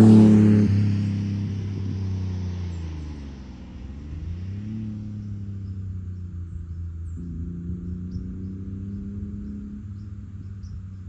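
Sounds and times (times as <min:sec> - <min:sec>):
mini truck driving away: 0:00.0 - 0:11.0.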